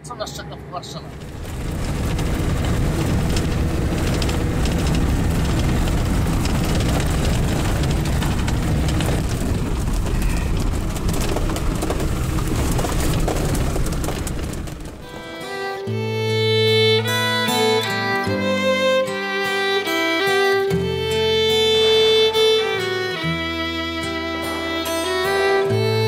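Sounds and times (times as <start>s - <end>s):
vehicle engine rumble: 0.0s - 26.0s
tyres rattling over gravel: 1.1s - 23.2s.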